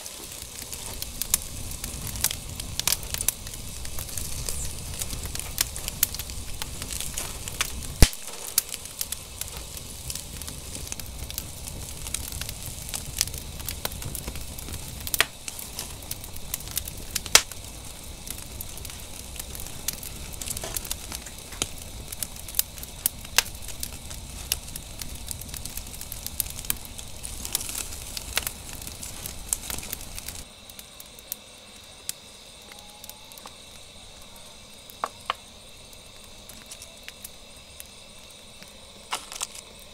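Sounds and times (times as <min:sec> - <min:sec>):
high trill of insects: 0:00.0 - 0:39.9
wood fire crackling and popping: 0:00.0 - 0:39.9.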